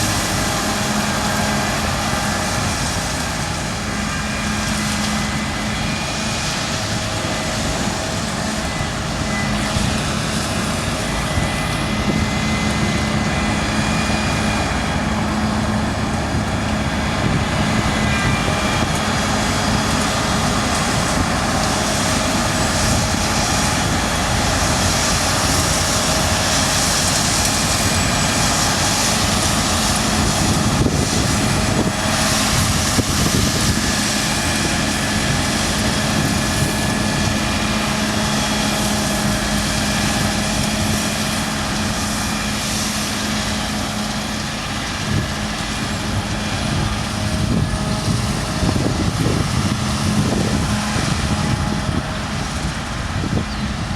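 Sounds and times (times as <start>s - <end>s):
combine harvester engine drone: 0.0s - 53.9s.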